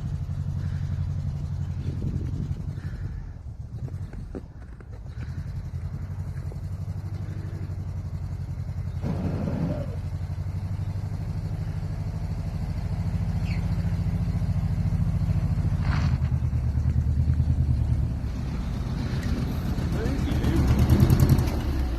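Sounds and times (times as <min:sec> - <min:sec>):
van engine idling: 0:00.0 - 0:21.9.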